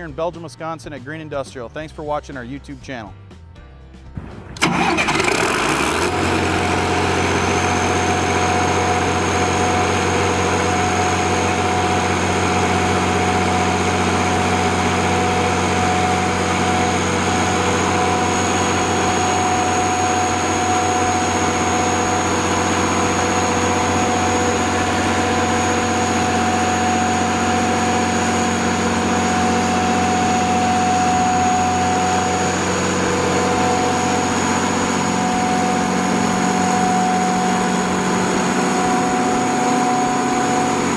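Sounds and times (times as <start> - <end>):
diesel generator running: 4.2 - 40.9
thin high whine: 4.6 - 40.9.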